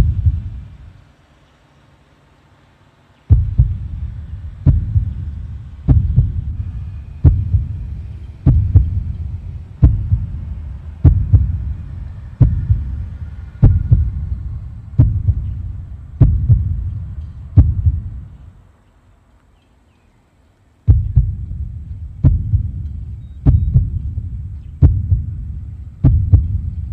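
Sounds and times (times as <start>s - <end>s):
heavy heartbeat-like thumping: 0.0s - 0.9s, 3.3s - 18.5s, 20.9s - 26.9s
faint hum: 0.0s - 26.9s.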